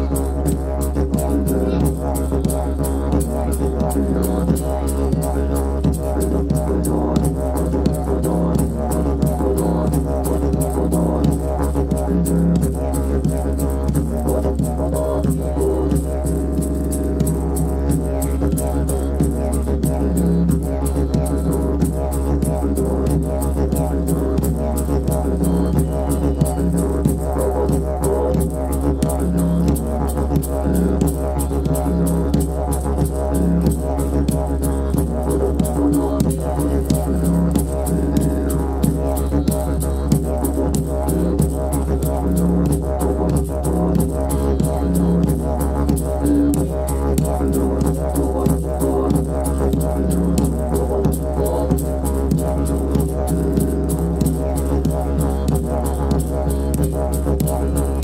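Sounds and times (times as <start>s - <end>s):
didgeridoo drone: 0.0s - 58.0s
hand shaker rattling: 0.0s - 58.0s.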